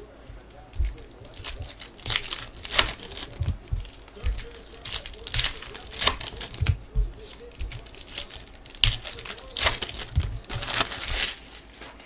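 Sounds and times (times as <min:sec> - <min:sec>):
card pack wrappers tearing and crinkling: 0:00.0 - 0:12.0.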